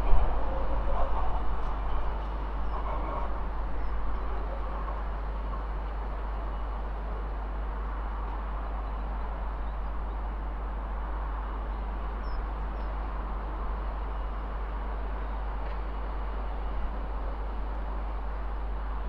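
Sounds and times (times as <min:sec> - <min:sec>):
distant diesel train rumble: 0:00.0 - 0:19.0.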